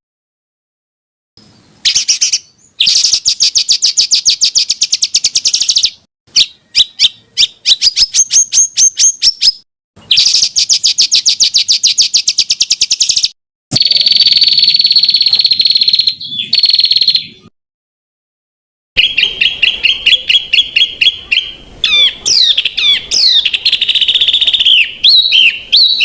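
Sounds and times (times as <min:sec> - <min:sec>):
songbird trilling: 0:01.8 - 0:17.5, 0:19.0 - 0:26.0.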